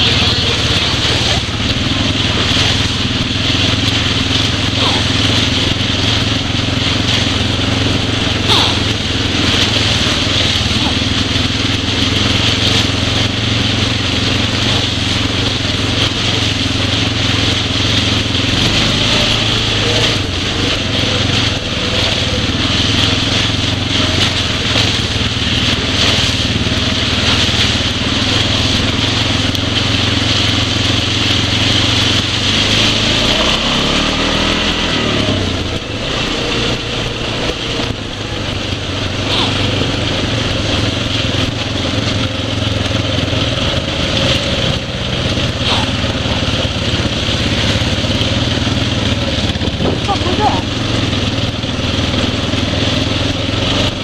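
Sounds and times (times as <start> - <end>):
atv engine running: 0.0 - 54.0
wind and trail noise: 0.0 - 54.0.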